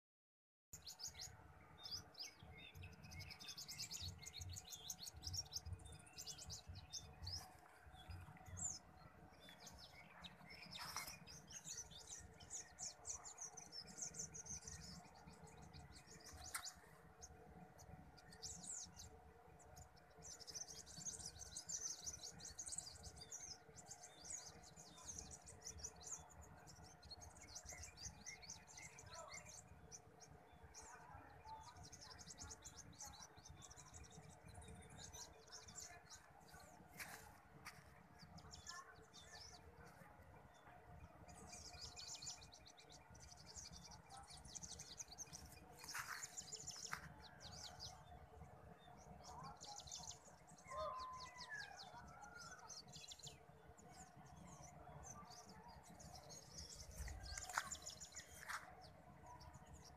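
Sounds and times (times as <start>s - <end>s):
small birds chirping: 0.8s - 59.9s.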